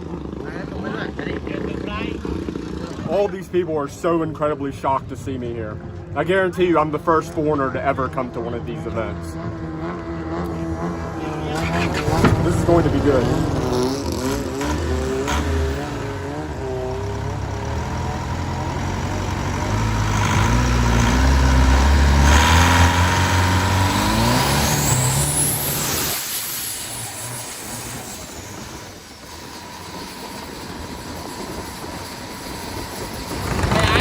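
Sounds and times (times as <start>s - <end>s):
boat engine revving: 0.0s - 3.6s, 7.1s - 34.0s
high whine: 0.0s - 34.0s.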